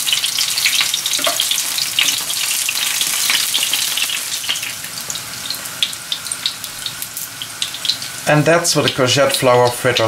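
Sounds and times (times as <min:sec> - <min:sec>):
battered vegetables frying in oil: 0:00.0 - 0:10.0.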